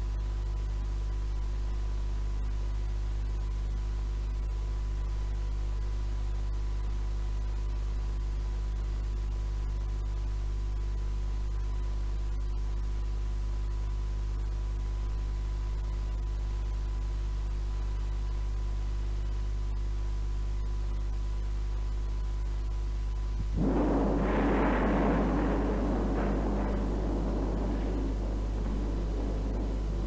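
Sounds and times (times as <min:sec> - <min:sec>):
low mains hum: 0:00.0 - 0:30.0
tape hiss: 0:00.0 - 0:30.0.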